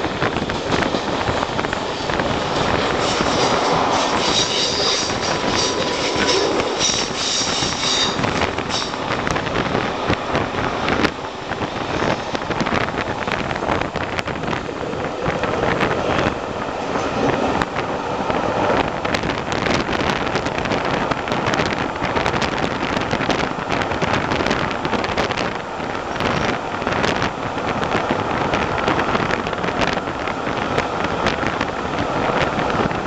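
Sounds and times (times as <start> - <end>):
train running through tunnel: 0.0 - 33.0.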